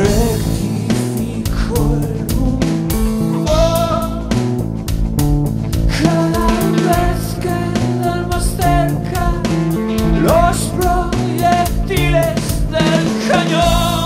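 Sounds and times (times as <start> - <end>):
man singing rock song: 0.0 - 4.6, 5.7 - 14.0
rock band playing: 0.0 - 14.0.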